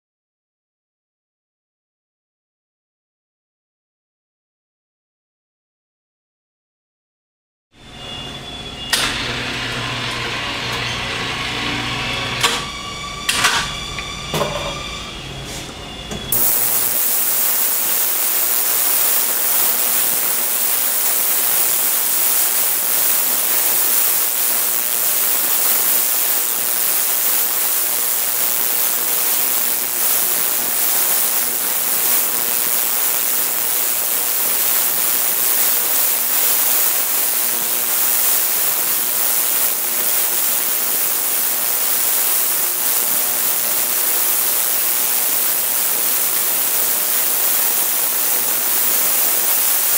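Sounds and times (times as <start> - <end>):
ultrasonic cleaner hissing: 8.3 - 49.9.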